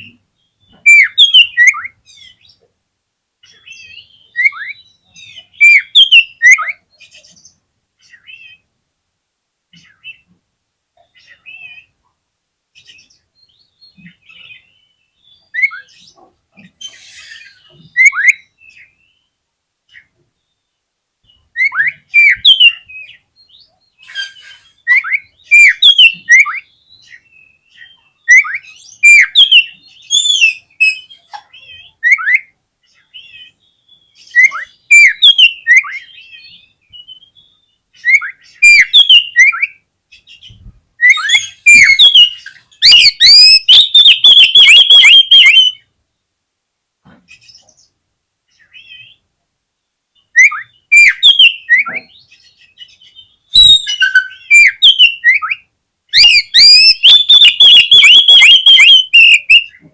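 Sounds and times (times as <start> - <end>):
bird singing whistled notes: 0.0 - 2.6, 3.5 - 8.6, 12.8 - 16.2, 16.8 - 19.4, 20.4 - 45.9, 50.2 - 59.8.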